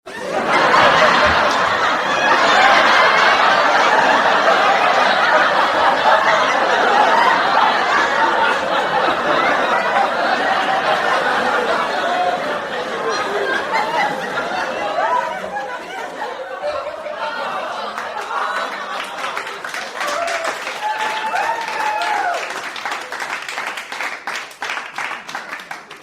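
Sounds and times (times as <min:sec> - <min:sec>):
studio audience laughing: 0:00.1 - 0:23.7.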